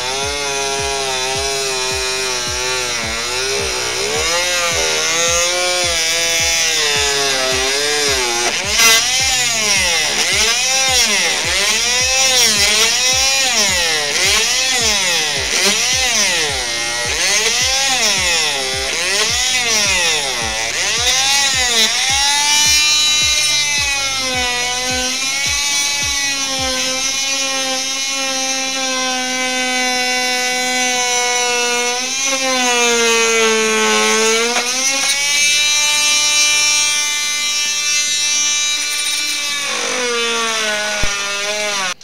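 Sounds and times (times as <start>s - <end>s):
power tool motor whining: 0.0s - 42.0s.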